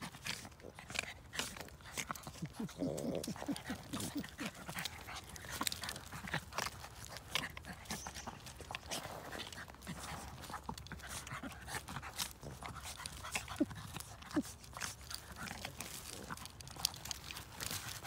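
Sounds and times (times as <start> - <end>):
dog throaty vocal sounds: 0.0 - 18.0
dogs breathing: 0.0 - 18.0
paws scuffling in wood chips: 0.0 - 18.0.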